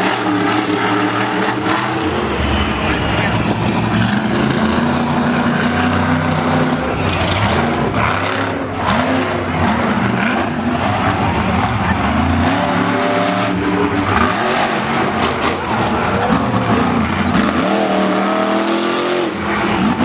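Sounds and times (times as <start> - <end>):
racing engines revving: 0.0 - 20.0
tyre noise: 1.2 - 20.0.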